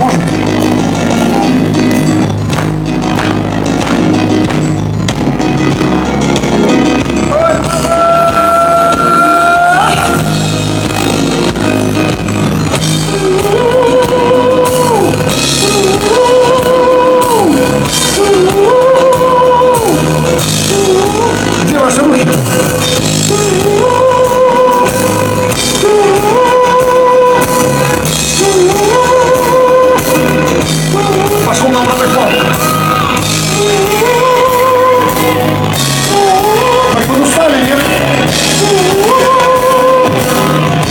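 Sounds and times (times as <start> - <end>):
drums: 0.0 - 40.9
pop-rock band playing: 0.0 - 40.9.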